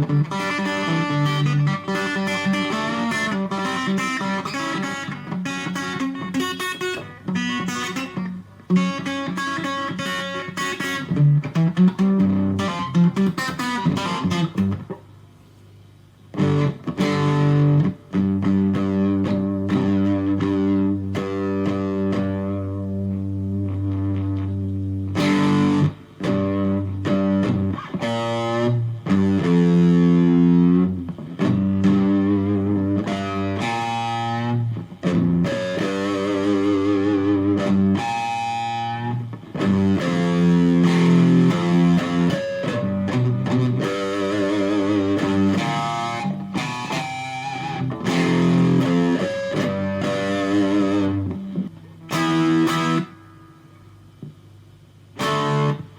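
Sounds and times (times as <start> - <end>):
overdriven electric guitar: 0.0 - 55.9.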